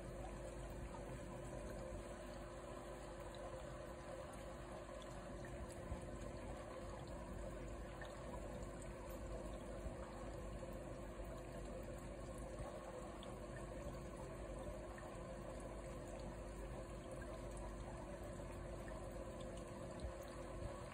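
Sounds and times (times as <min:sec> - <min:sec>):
aquarium water trickling: 0:00.0 - 0:20.9
low equipment hum: 0:00.0 - 0:20.9.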